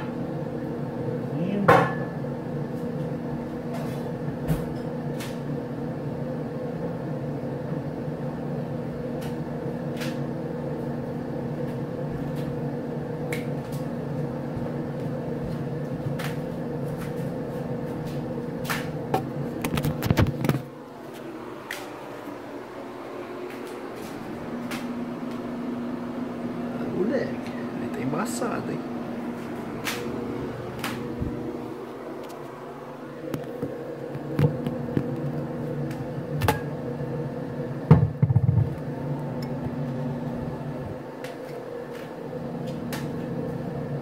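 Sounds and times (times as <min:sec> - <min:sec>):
kitchen appliance humming: 0:00.0 - 0:44.0.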